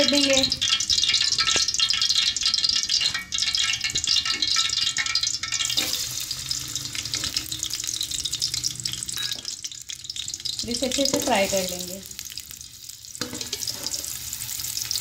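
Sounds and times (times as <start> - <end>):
frying sizzle: 0.0 - 15.0
hot oil crackling in a pot: 0.0 - 15.0.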